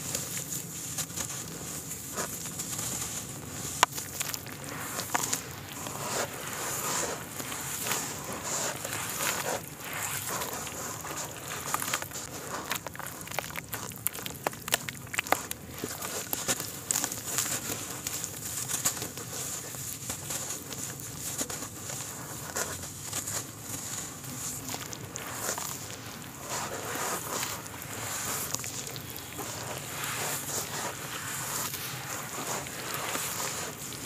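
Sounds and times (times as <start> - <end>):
hands squelching wet mud: 0.0 - 34.0
sharp crackles: 0.0 - 34.0.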